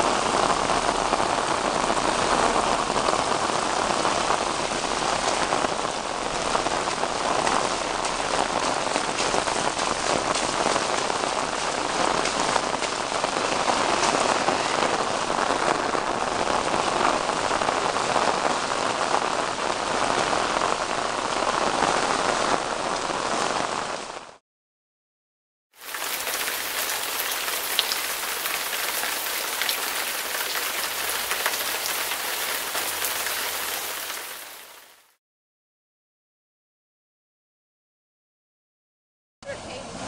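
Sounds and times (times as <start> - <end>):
rain falling steadily: 0.0 - 24.4, 25.8 - 35.2.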